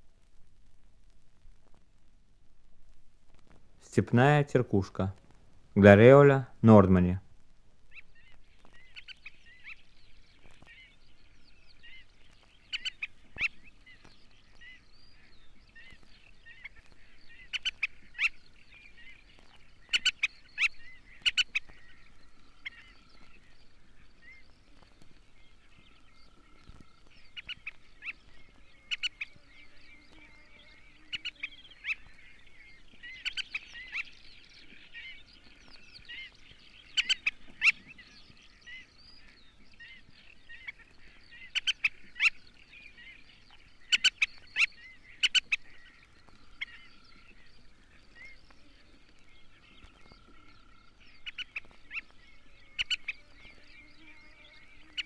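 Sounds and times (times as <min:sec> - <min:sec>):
flock of birds chirping: 0:02.8 - 0:55.0
sharp clipped bird calls: 0:07.9 - 0:55.0.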